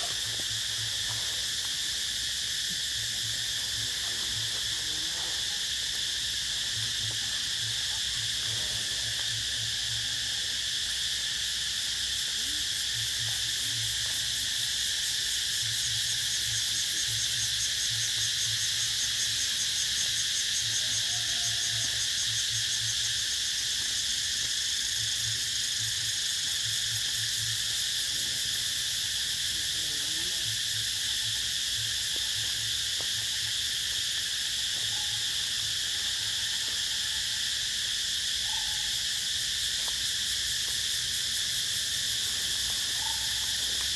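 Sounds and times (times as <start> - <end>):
insects shrilling: 0.0 - 43.9.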